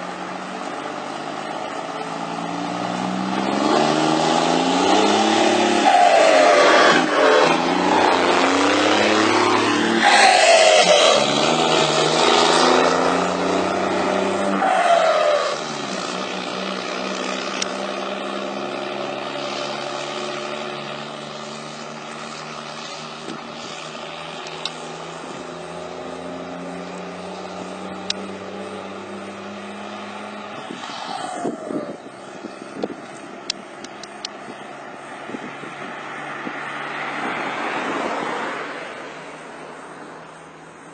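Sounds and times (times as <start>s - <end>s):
diesel truck engine revving and idling: 0.0s - 40.9s.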